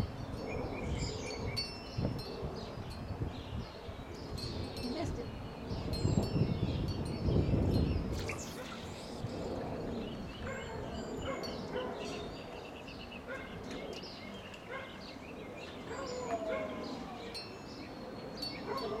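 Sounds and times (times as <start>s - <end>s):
birds chirping and singing: 0.0s - 19.0s.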